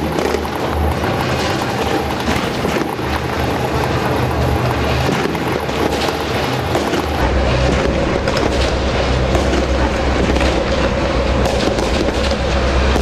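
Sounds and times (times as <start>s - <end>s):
tank engine and track rumble: 0.0s - 13.0s.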